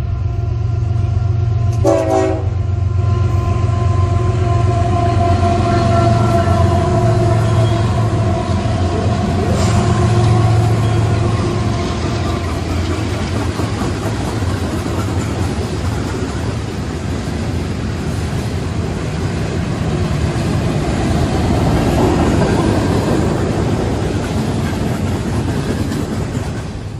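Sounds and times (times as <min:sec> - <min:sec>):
locomotive engine humming: 0:00.0 - 0:26.9.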